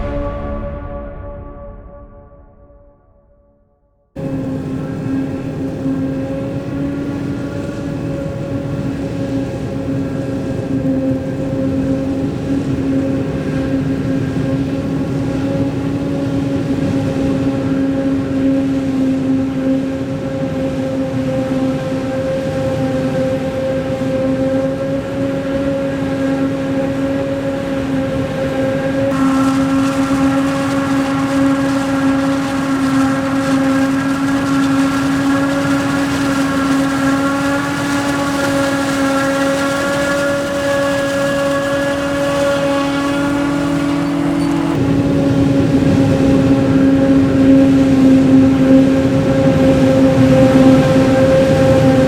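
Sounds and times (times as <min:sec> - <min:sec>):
engine drone: 0:00.0 - 0:03.1, 0:04.2 - 0:52.0
machinery whine: 0:00.0 - 0:03.4, 0:04.2 - 0:52.0.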